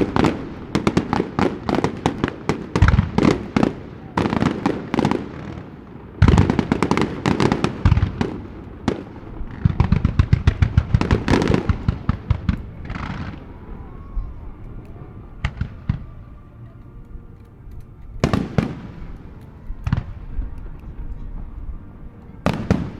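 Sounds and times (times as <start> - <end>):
fireworks crackling: 0.0 - 22.9.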